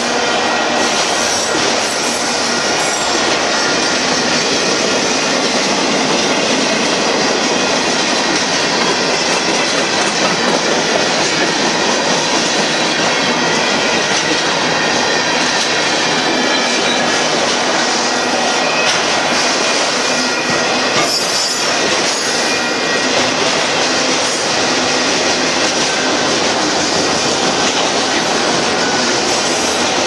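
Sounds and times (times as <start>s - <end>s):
steel wheels running on rails: 0.0s - 30.0s.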